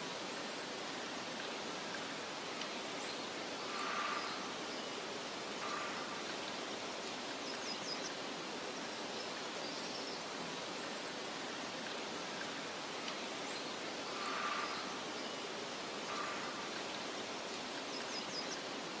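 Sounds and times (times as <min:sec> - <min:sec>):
wind hiss in meadow: 0:00.0 - 0:19.0.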